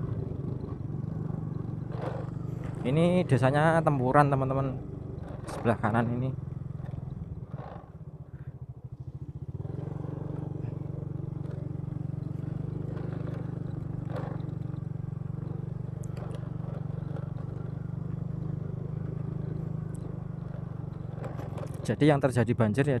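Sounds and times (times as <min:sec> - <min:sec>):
bike knocks and rattles: 0:00.0 - 0:03.0, 0:04.8 - 0:08.0, 0:09.6 - 0:22.0
motorcycle engine running: 0:00.0 - 0:23.0.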